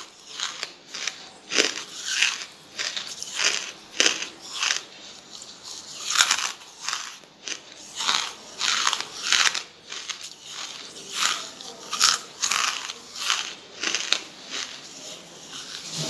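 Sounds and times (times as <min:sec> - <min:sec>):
charcoal crunching in mouth: 0:00.0 - 0:16.0.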